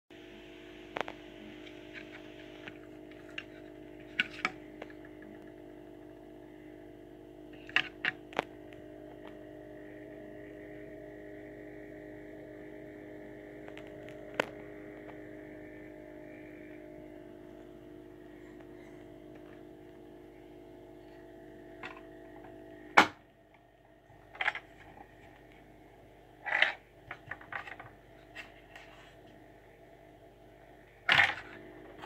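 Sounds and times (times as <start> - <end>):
steady hum: 0.1 - 32.0.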